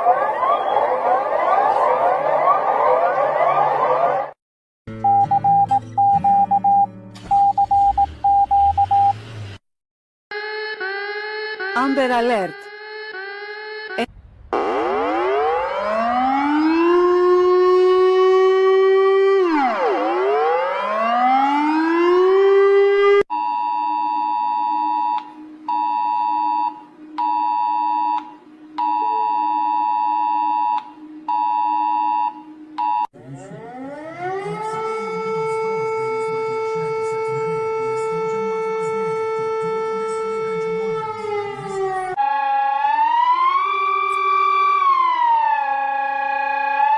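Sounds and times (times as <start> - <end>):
siren wailing: 0.0 - 4.4, 10.3 - 23.2, 24.1 - 46.9.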